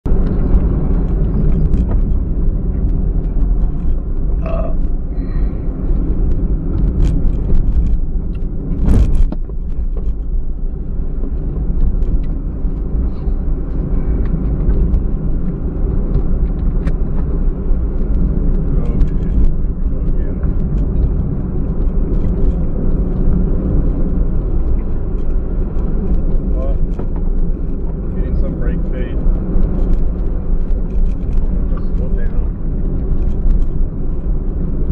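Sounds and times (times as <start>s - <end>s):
car cabin rumble: 0.0s - 34.9s.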